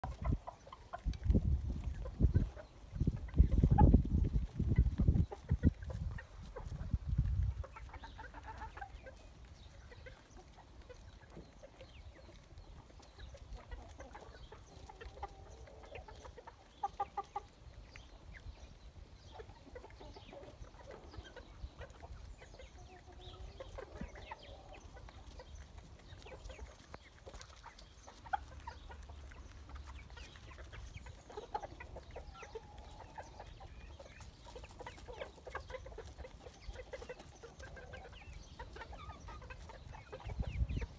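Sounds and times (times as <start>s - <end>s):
chicken calls: 0.0s - 40.9s
chickens clucking: 0.0s - 40.9s.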